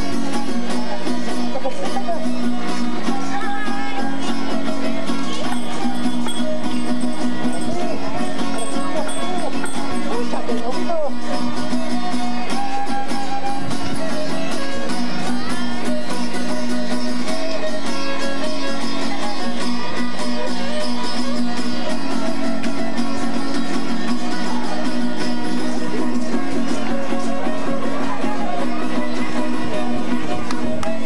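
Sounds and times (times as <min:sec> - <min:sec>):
lively string band music: 0:00.0 - 0:31.0.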